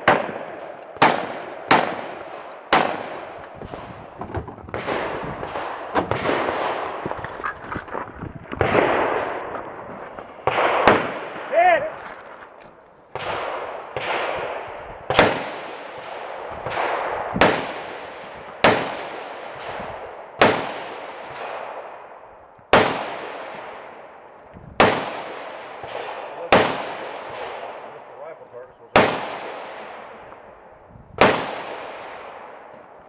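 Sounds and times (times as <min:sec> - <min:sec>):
loud gunshots with echo: 0:00.0 - 0:07.3, 0:08.6 - 0:12.1, 0:13.1 - 0:24.1, 0:24.8 - 0:28.3, 0:28.9 - 0:32.7.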